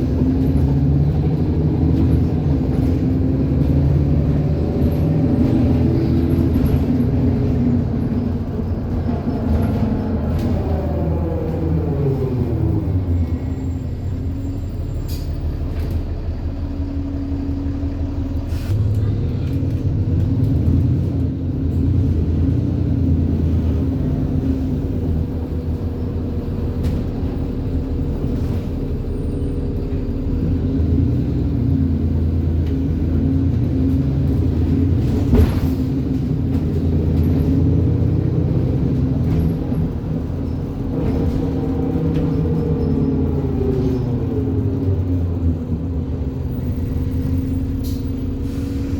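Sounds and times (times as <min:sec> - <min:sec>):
bus engine whining drone: 0:00.0 - 0:48.9.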